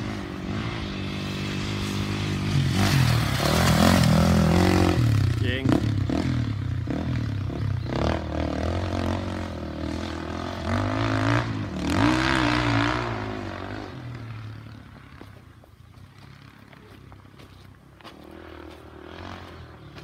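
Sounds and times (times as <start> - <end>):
dirt bike engine revving: 0.0 - 15.4, 16.1 - 20.0.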